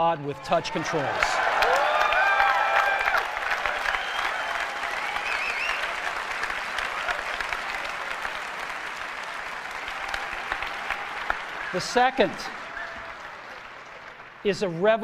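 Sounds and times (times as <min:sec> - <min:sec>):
audience applauding: 0:00.7 - 0:14.9.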